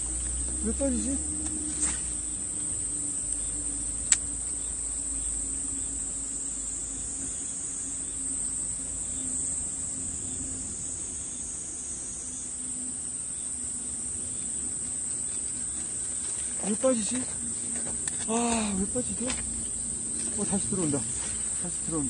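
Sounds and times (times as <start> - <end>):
faint low hum: 0.0 - 22.0
insects droning: 0.0 - 22.0.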